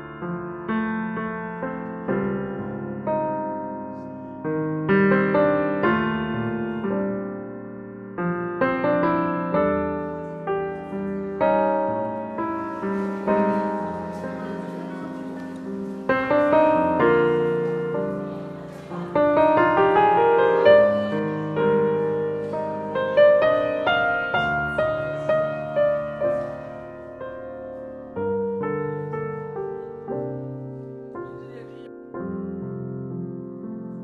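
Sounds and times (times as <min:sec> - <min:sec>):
piano melody: 0:00.0 - 0:34.0.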